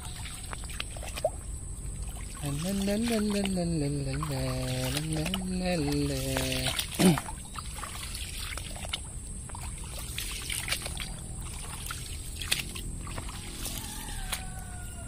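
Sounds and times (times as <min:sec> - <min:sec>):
small water splashes: 0:00.0 - 0:15.0.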